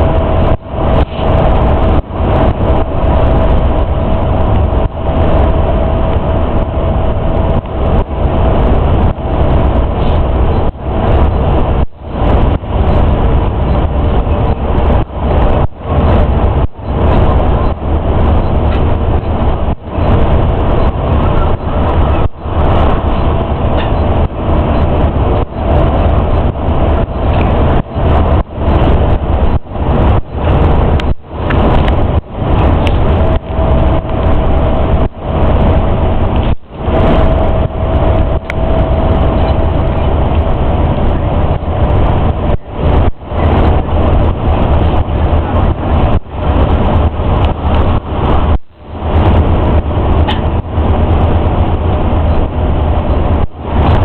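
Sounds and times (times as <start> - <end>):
engine and road rumble drone: 0.0 - 54.0.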